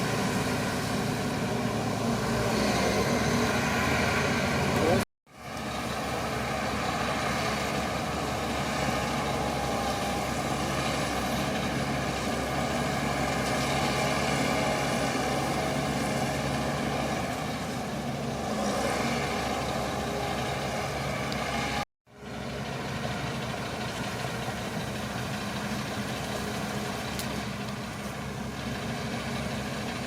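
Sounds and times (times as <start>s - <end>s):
bulldozer diesel engine rumbling: 0.0s - 30.0s.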